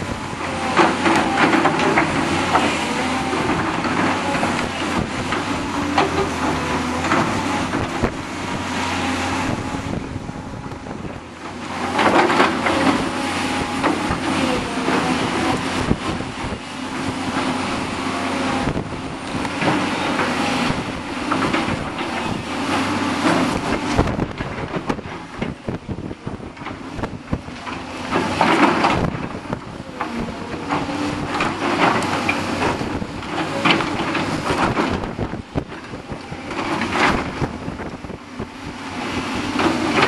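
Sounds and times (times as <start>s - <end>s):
bucket working through loose muck: 0.0s - 40.0s
excavator diesel engine running: 0.0s - 40.0s
wind crackling on microphone: 0.0s - 40.0s.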